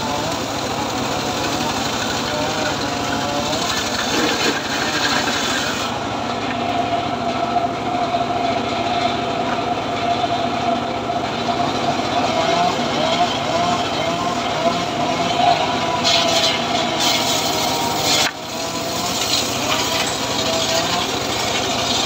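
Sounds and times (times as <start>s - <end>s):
circular saw cutting wood: 0.0s - 22.0s
saw blade whining: 0.0s - 22.0s
saw engine running: 0.0s - 22.0s.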